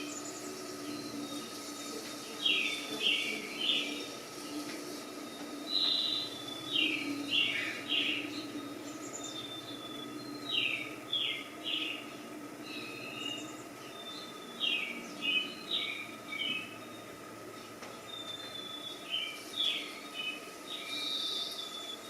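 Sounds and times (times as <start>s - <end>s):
bird chirping: 0.0s - 17.2s, 17.9s - 22.0s
faint steady hum: 0.0s - 22.0s.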